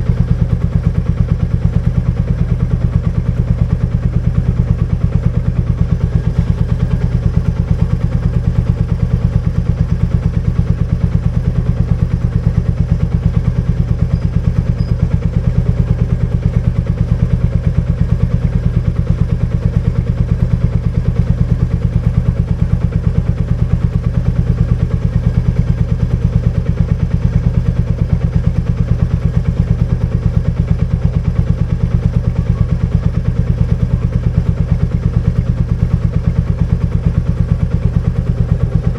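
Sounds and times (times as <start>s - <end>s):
single-cylinder engine running: 0.0s - 38.9s.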